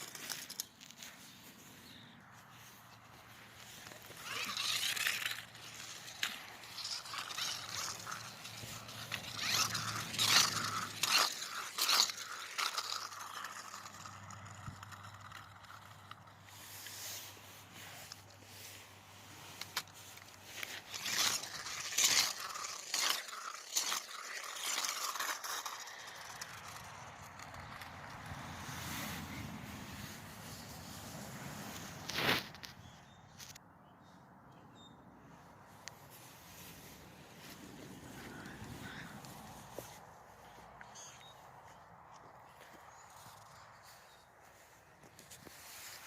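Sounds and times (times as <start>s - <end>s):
toy trucks scraping on plastic ramp: 0.0s - 32.8s, 35.9s - 41.4s, 42.2s - 46.0s.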